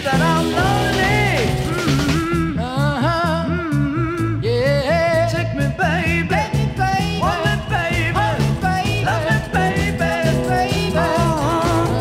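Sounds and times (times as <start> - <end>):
song with singing over band: 0.0 - 12.0.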